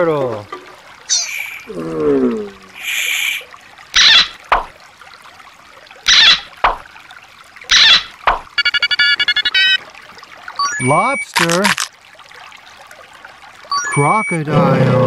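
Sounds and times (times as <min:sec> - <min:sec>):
water dripping: 0:00.0 - 0:14.5
water splashing: 0:00.0 - 0:15.0.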